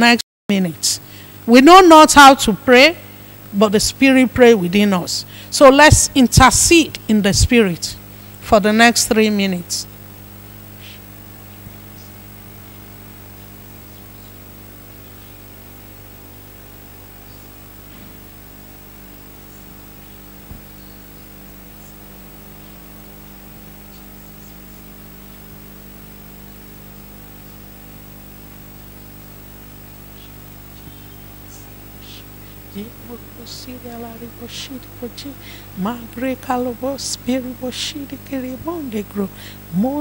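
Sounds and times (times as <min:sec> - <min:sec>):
electrical mains hum: 0:00.0 - 0:40.0
light microphone hiss: 0:00.0 - 0:40.0.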